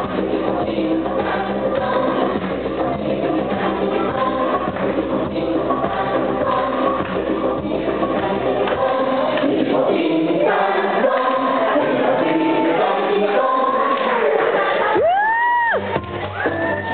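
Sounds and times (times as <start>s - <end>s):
voices singing together: 0.0s - 15.3s
loud dance music: 0.0s - 16.9s.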